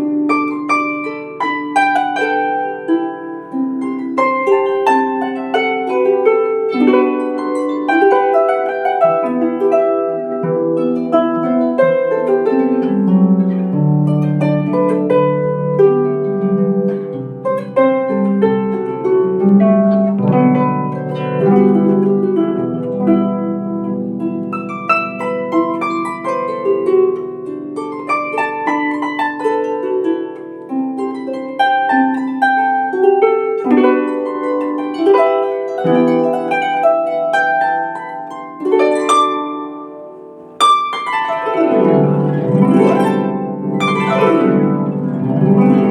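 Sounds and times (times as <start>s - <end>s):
harp melody: 0.0s - 45.9s.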